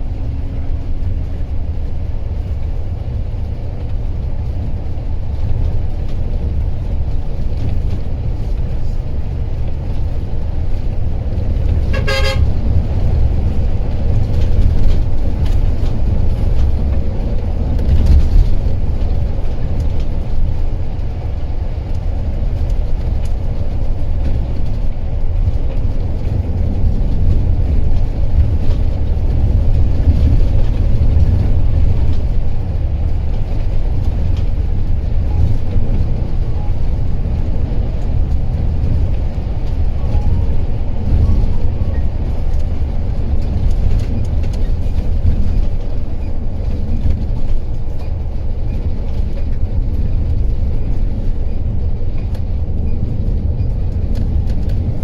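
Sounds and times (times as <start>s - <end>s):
bus engine and tyre rumble: 0.0s - 55.0s.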